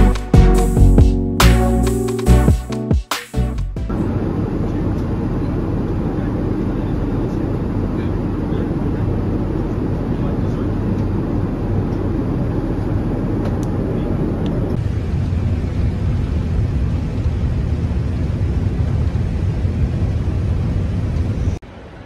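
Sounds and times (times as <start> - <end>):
airliner cabin rumble: 3.9 - 22.0.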